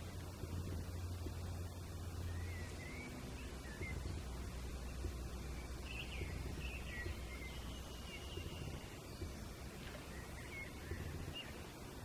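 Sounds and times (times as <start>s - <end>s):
boat engine rumble: 0.0s - 12.0s
bird chirps: 2.1s - 11.8s.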